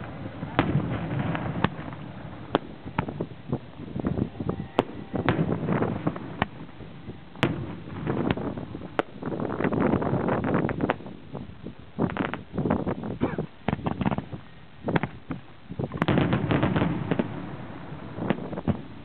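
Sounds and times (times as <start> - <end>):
fireworks bangs and cracks: 0.0 - 19.0
fireworks crackling: 0.0 - 19.0.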